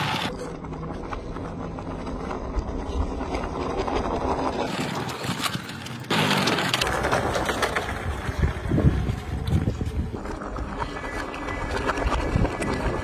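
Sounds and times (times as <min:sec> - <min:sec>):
model truck wheels on concrete: 0:00.0 - 0:13.0.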